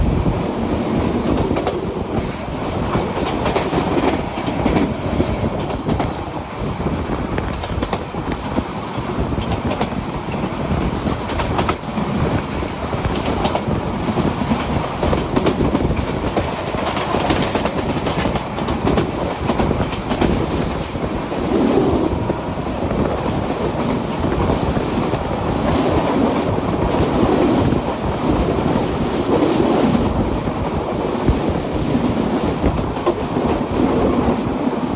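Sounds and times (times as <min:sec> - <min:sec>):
train rumbling: 0:00.0 - 0:34.9.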